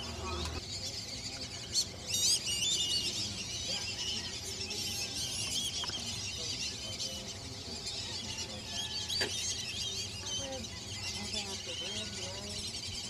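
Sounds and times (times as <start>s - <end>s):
chorus of birds twittering: 0.0s - 13.0s.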